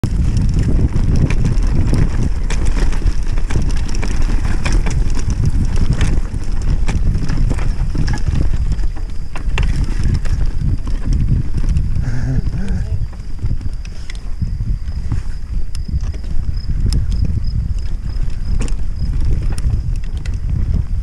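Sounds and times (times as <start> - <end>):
bike clicks and rattles: 0.0 - 21.0
wind buffeting camera: 0.0 - 21.0.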